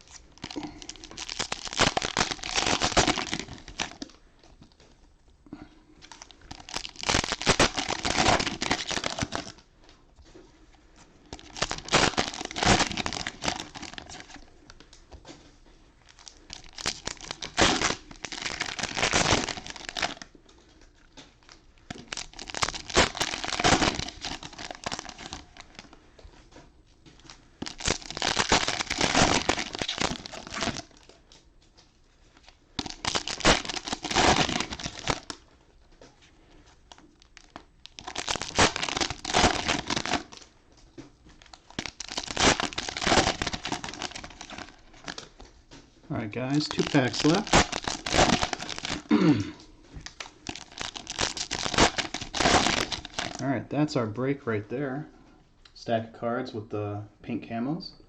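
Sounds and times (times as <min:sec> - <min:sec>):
cellophane wrappers crinkling: 0:00.0 - 0:53.5.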